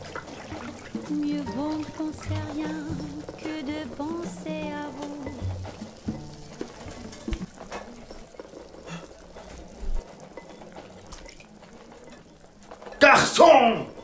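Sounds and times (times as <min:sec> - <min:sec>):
water sloshing and trickling: 0:00.0 - 0:14.0.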